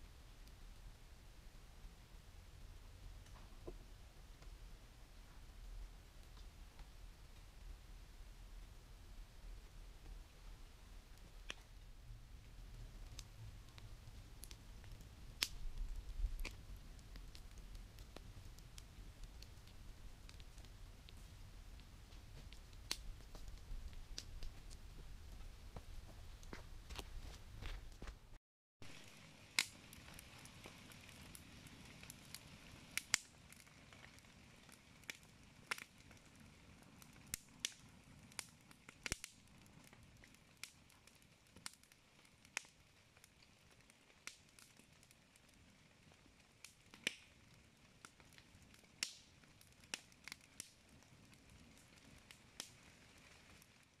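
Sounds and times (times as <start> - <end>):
faint low hiss: 0.0 - 54.0
campfire crackling and popping: 1.8 - 54.0.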